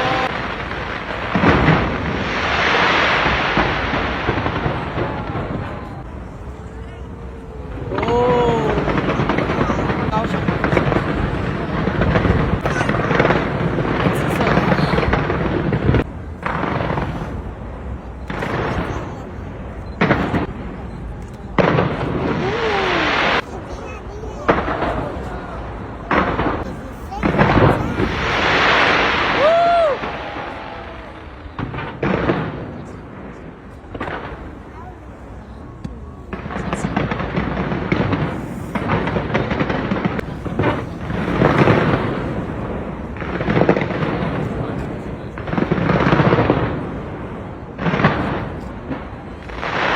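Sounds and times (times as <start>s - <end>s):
fireworks bangs and crackle: 0.0s - 49.9s.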